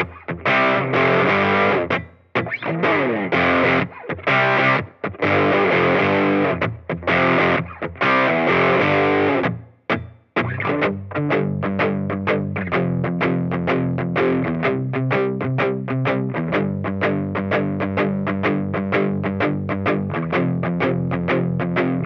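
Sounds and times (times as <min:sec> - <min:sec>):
distorted electric guitar riffs: 0:00.0 - 0:22.0.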